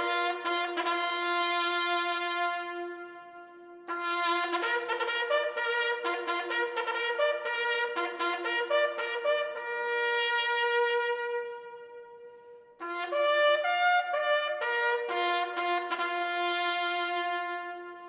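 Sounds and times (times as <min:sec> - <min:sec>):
trumpet playing bugle call: 0:00.0 - 0:18.0.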